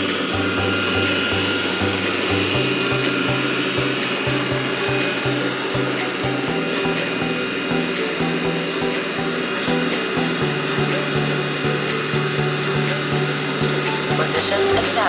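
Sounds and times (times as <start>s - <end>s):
background music with bass and beat: 0.0s - 15.0s.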